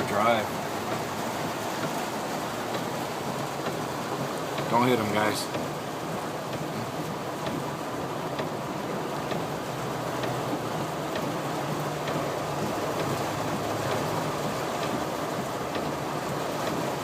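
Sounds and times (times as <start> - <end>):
low engine hum: 0.0 - 17.0
water rushing around car: 0.0 - 17.0.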